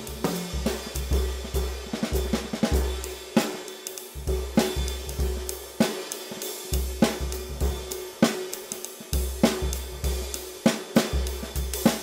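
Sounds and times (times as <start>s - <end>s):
cymbals washing: 0.0s - 12.0s
drum kit groove: 0.0s - 12.0s.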